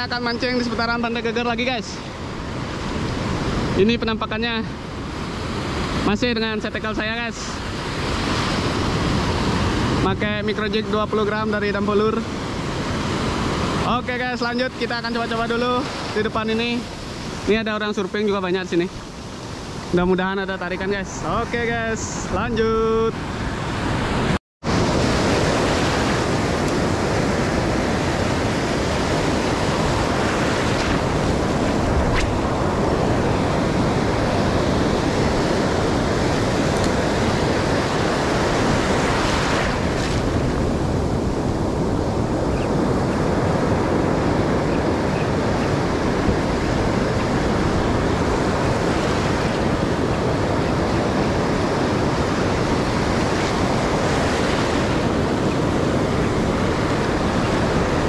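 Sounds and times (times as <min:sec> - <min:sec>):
ocean surf breaking: 0:00.0 - 0:58.0
wind buffeting microphone: 0:07.6 - 0:58.0.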